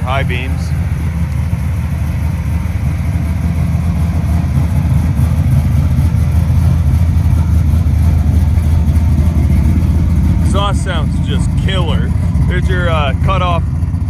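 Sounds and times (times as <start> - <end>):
vee eight engine idling: 0.0 - 14.0.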